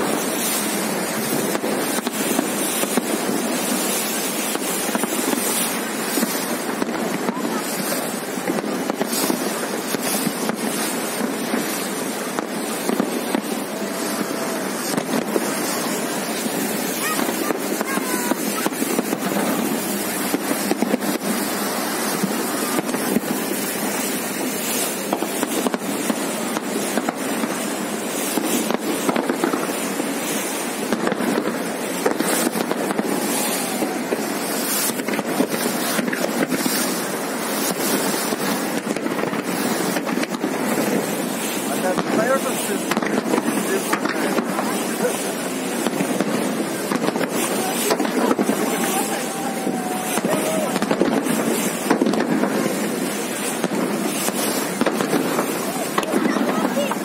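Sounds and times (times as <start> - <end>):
fireworks bangs and crackles: 0.0 - 57.0
spectators chattering: 0.0 - 57.0
water rushing past boat: 0.0 - 57.0.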